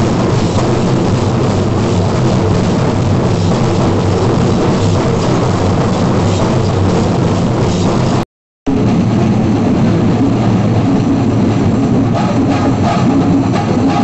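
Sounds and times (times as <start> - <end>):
loud dense drumming: 0.0 - 14.0.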